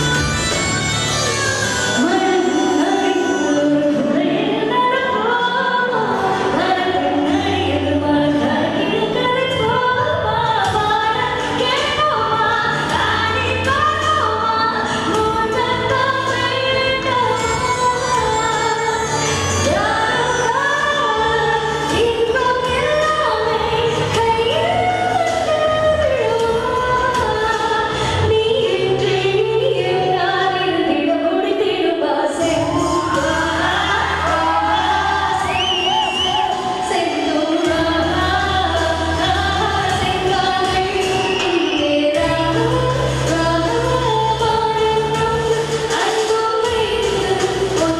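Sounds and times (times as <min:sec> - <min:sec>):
backing music: 0:00.0 - 0:47.9
woman singing into microphone: 0:00.0 - 0:47.9.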